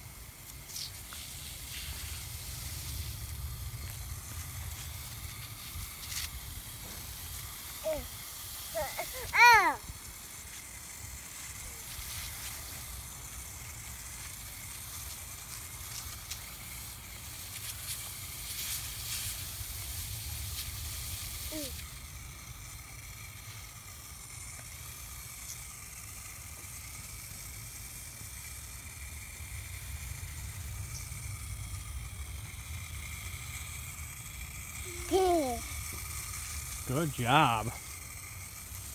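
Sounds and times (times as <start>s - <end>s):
hose spray hissing onto grass: 0.0s - 38.9s.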